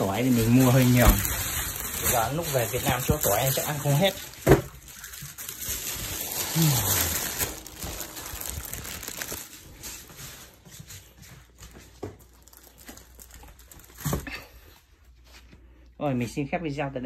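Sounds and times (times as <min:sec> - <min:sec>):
plastic bags rustling: 0:00.0 - 0:15.2.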